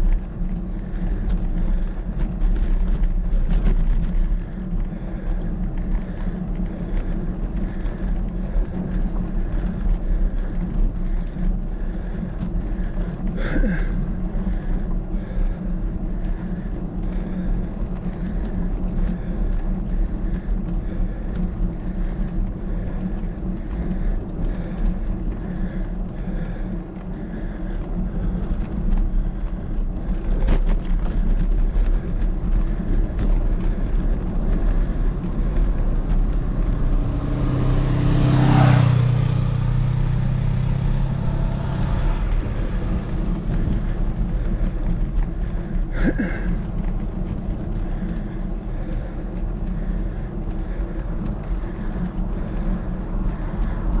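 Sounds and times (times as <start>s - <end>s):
motor vehicle passing: 0.0s - 54.0s
wind and road noise: 0.0s - 54.0s.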